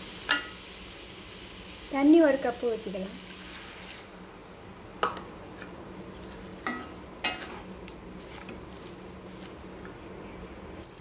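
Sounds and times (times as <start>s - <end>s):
vegetables sizzling in a pan: 0.0s - 9.9s.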